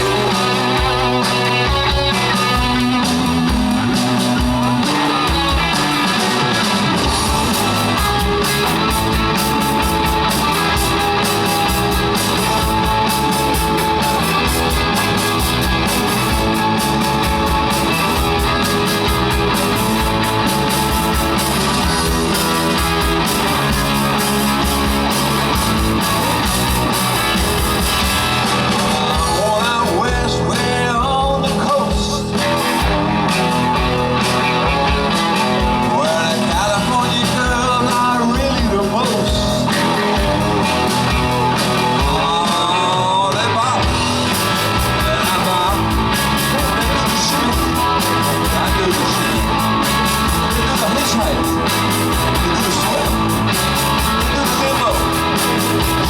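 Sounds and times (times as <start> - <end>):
bass: 0.0 - 56.0
bending guitar lead line: 0.0 - 56.0
drums: 0.0 - 56.0
electric guitar: 0.0 - 56.0.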